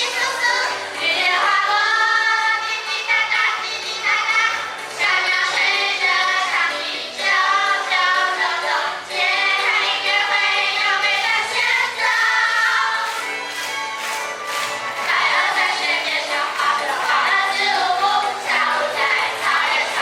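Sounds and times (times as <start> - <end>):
backing music: 0.0 - 20.0
high voices singing together: 0.0 - 20.0.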